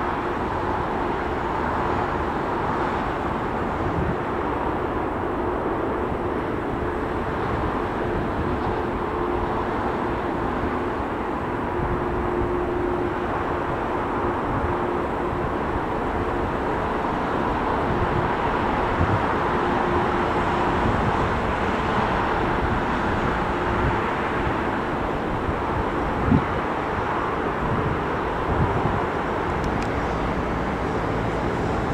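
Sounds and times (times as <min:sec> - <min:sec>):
jet engines hum with whine: 0:00.0 - 0:31.9.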